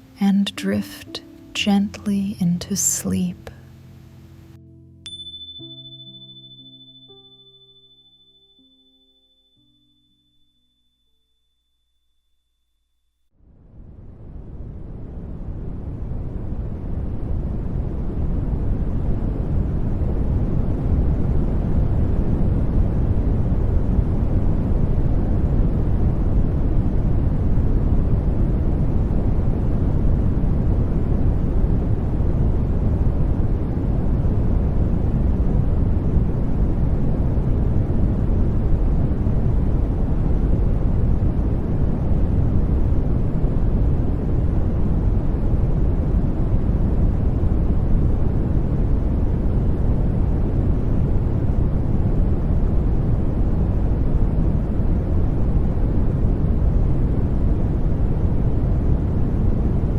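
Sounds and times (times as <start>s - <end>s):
deep low hiss: 0.0s - 8.2s, 13.4s - 59.9s.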